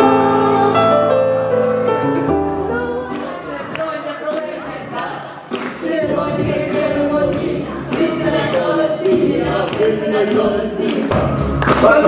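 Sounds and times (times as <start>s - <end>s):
girls singing into microphones: 0.0s - 1.5s, 2.6s - 11.3s
backing music: 0.0s - 12.0s.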